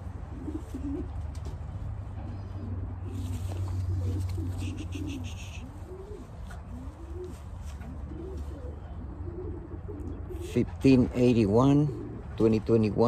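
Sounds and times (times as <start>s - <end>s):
pigeons cooing: 0.0s - 13.0s
steady low hum: 0.0s - 13.0s.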